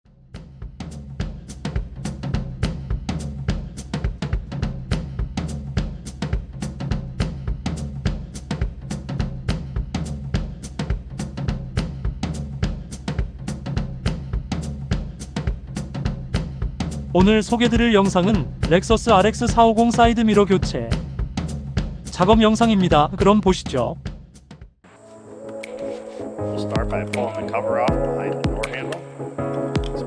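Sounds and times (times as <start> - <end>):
drum-kit beat: 0.3 - 24.7, 25.5 - 30.0.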